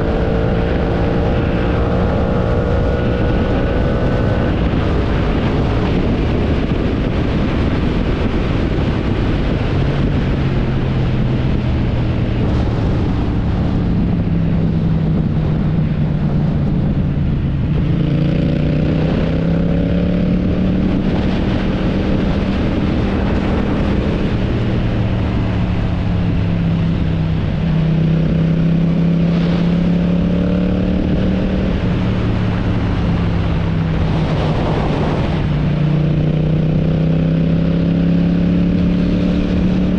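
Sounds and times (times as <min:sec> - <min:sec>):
motorcycle engine cruising drone: 0:00.0 - 0:39.9
wind rushing: 0:00.0 - 0:39.9.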